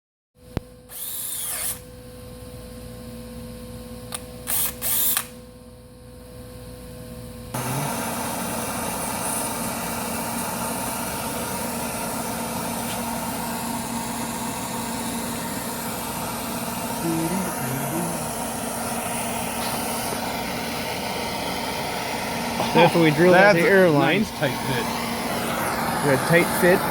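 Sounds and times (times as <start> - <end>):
electric drill drilling metal: 0.9 - 1.9, 4.1 - 5.4, 7.6 - 26.9.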